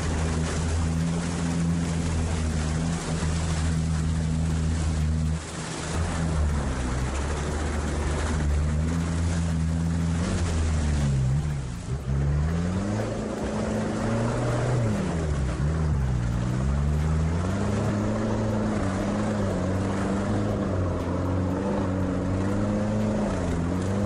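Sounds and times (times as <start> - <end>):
all-terrain vehicle engine revving: 0.0 - 24.0.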